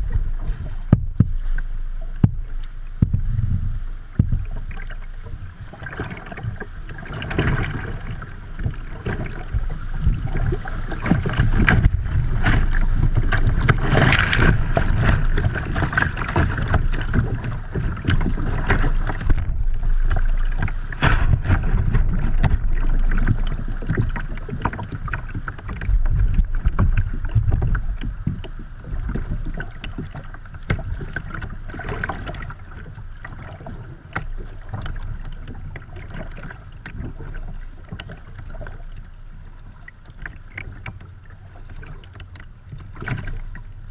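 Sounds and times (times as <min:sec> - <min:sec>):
river water rushing against kayak: 0:00.0 - 0:43.9
water slaps and splashes: 0:00.0 - 0:43.9.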